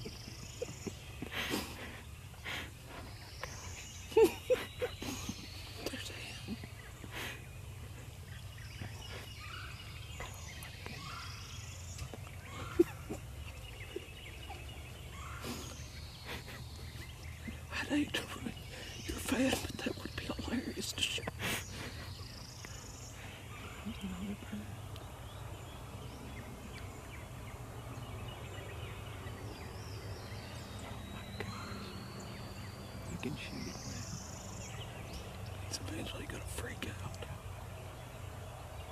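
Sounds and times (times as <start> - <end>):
faint gliding bird calls: 0.0 - 38.9
songbirds chirping: 0.0 - 38.9
steady low hum: 0.0 - 38.9.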